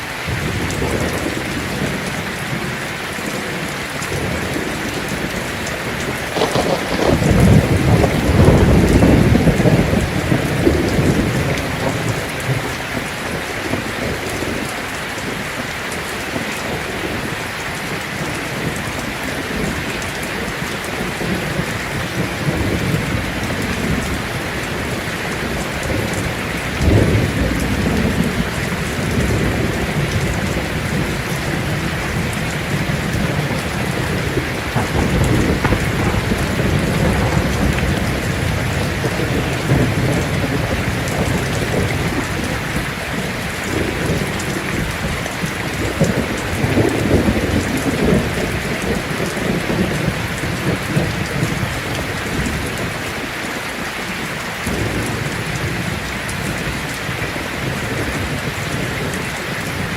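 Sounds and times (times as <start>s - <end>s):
thunder rumbling: 0.0s - 53.3s
heavy rain on a tin roof: 0.0s - 59.9s.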